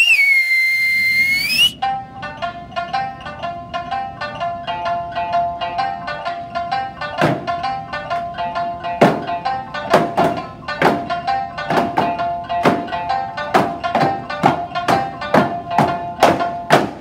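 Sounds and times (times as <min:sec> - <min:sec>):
folk music melody: 0:01.0 - 0:17.0
hand drum strokes: 0:01.8 - 0:17.0.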